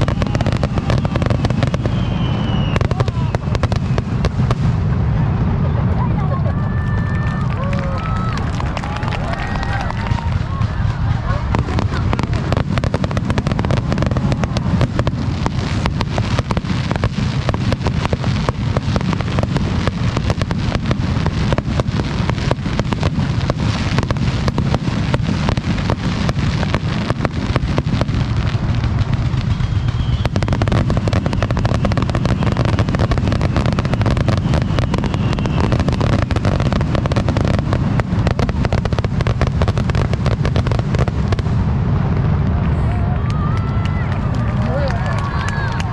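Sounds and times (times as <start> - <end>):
continuous low rumble: 0.0 - 45.9
fireworks bangs and crackles: 0.0 - 45.9.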